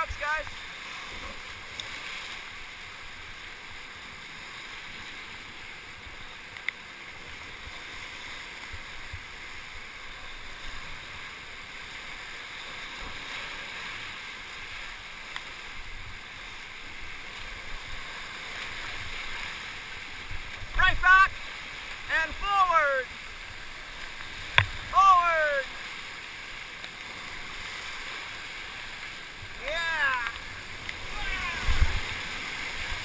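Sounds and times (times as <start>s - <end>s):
whitewater rushing: 0.0s - 33.0s.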